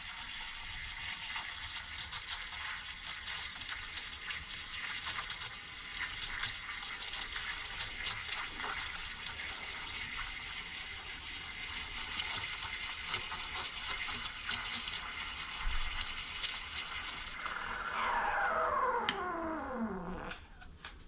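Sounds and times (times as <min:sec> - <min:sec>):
steam wand hissing into milk: 0:00.0 - 0:19.3.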